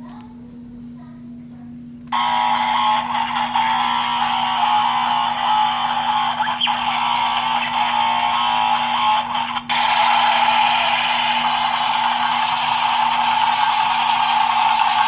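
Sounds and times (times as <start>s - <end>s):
toy power tool buzzing: 2.2s - 15.0s.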